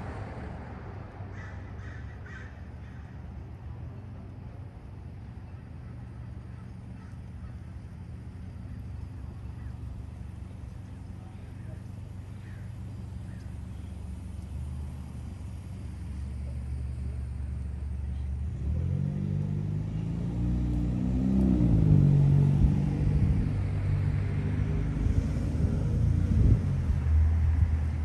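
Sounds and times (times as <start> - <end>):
street traffic hum: 0.0 - 28.0
vehicle engine approaching: 0.0 - 28.0.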